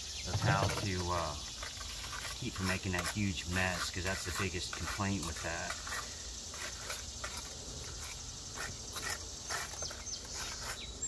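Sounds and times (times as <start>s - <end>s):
steady high hiss: 0.0s - 11.0s
trowel scraping and tapping mortar: 0.3s - 11.0s.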